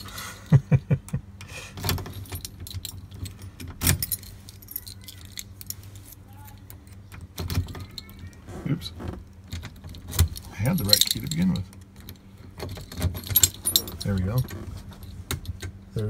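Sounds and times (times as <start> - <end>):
keys jangling and clinking: 0.0 - 0.5, 1.8 - 8.4, 9.2 - 15.8.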